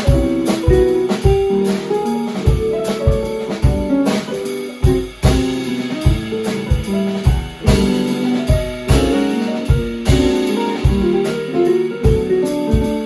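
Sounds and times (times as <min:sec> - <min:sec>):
piano chords and melody: 0:00.0 - 0:13.0
steady drum beat: 0:00.0 - 0:13.0.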